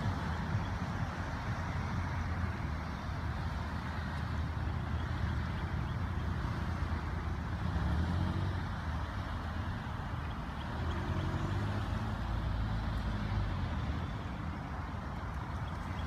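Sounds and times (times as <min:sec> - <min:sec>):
cars driving slowly past: 0:00.0 - 0:16.0.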